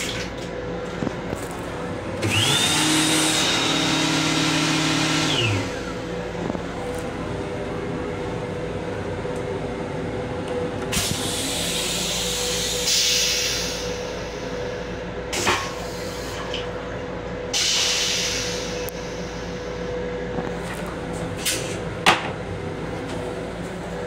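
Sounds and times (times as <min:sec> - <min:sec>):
constant whine: 0:00.0 - 0:24.0
electric railcar hum: 0:00.1 - 0:24.0.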